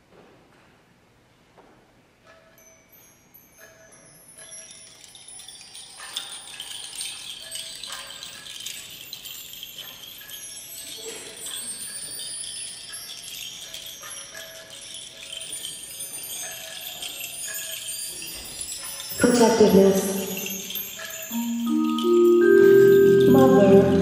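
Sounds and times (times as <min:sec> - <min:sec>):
tinkling chimes and small bells: 0:02.2 - 0:24.0.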